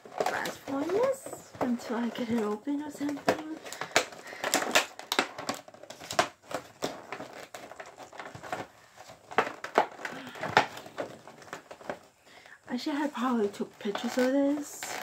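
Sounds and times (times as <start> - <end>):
plastic packaging crinkling and snapping: 0.0 - 15.0.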